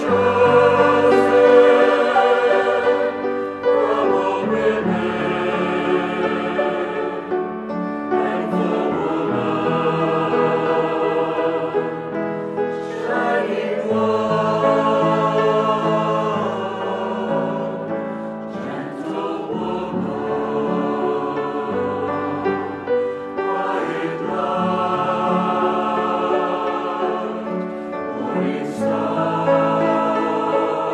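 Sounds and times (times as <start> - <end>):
choir singing a hymn: 0.0 - 30.9.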